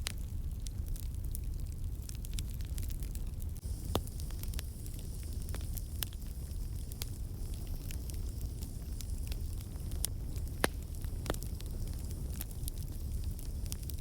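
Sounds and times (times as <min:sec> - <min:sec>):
fire low rumble and hiss: 0:00.0 - 0:14.0
logs crackling in fireplace: 0:00.0 - 0:14.0
sharp fire pops: 0:00.0 - 0:14.0.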